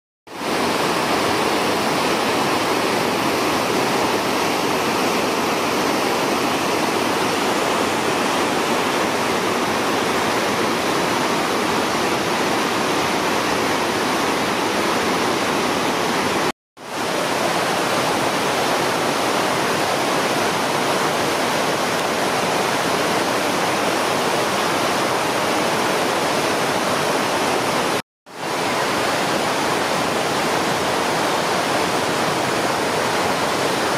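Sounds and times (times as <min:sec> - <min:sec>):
whitewater rapids roaring: 0:00.3 - 0:33.9.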